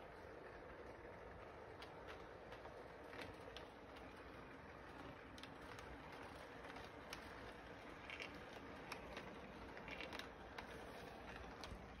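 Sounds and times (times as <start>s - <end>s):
toy electric train running: 0.0s - 12.0s
wheels clicking on rails: 0.0s - 12.0s.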